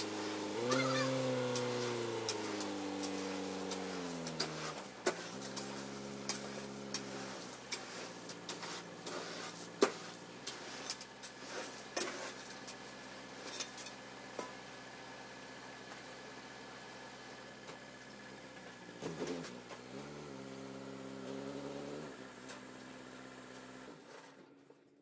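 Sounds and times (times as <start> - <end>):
diesel truck engine: 0.0 - 24.9.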